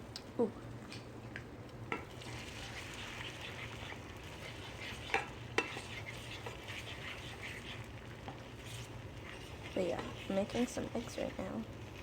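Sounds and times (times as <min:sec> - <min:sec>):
eggs sizzling in a frying pan: 0:01.7 - 0:12.0.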